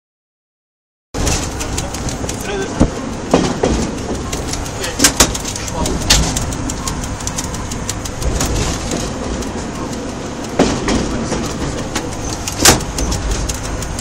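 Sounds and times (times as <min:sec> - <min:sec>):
train rumble and rattle: 0:01.2 - 0:14.0.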